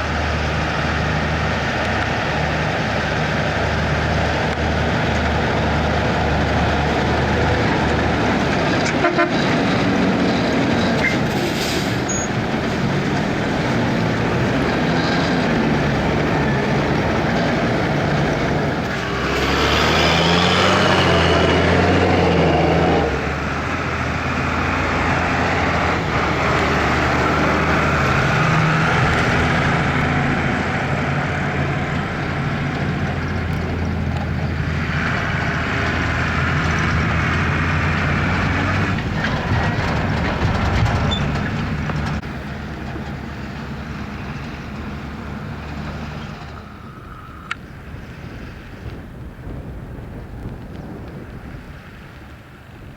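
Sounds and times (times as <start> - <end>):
tractor diesel engine drone: 0.0 - 52.9.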